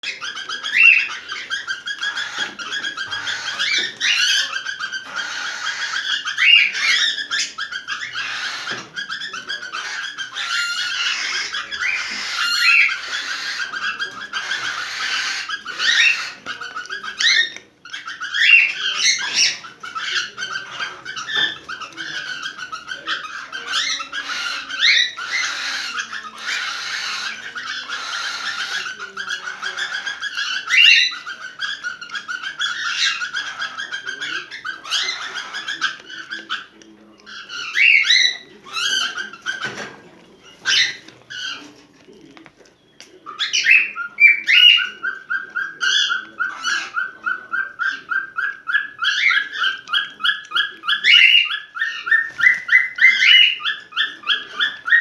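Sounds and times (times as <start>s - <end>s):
cockatiel chirping and whistling: 0.0s - 36.7s, 43.4s - 55.0s.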